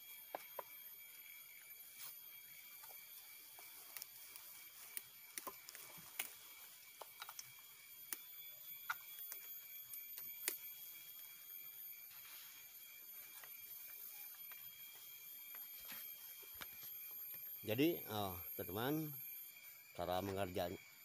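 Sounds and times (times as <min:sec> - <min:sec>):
high-pitched whine: 0:00.0 - 0:21.0.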